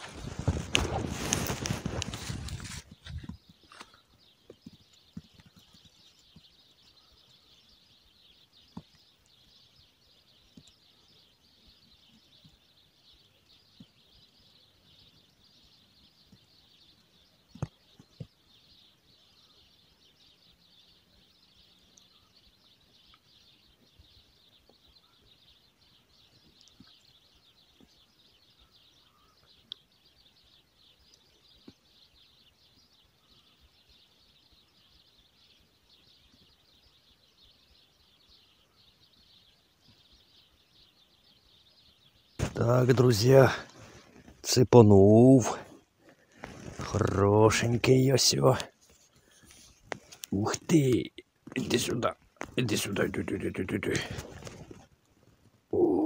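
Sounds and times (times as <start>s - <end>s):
faint outdoor hiss: 0.0s - 56.0s.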